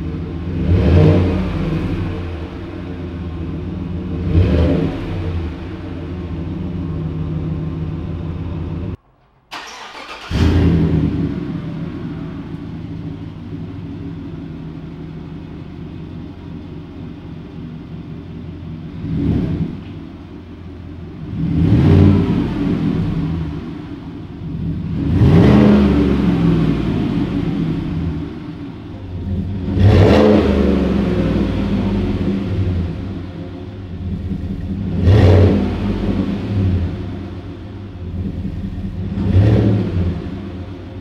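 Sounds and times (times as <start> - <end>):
truck engine idling and revving: 0.0 - 41.0.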